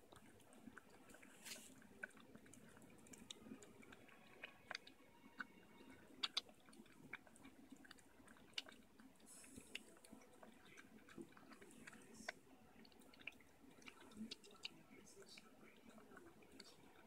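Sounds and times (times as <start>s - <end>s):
puppy chewing food: 0.0s - 17.0s.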